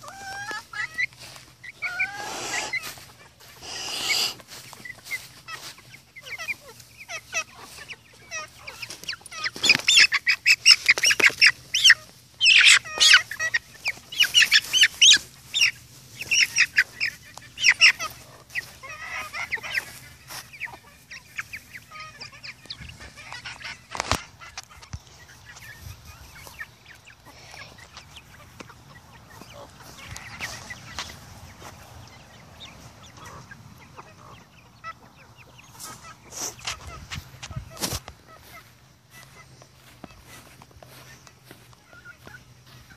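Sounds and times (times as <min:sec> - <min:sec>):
chickens clucking and squawking: 0:00.0 - 0:42.9.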